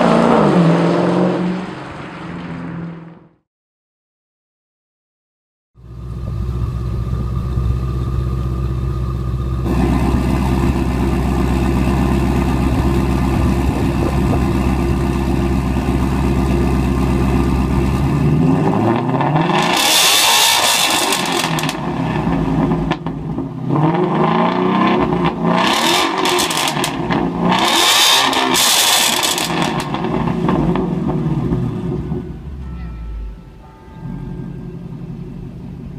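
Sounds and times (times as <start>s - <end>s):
car engine idling and revving: 5.8s - 35.9s.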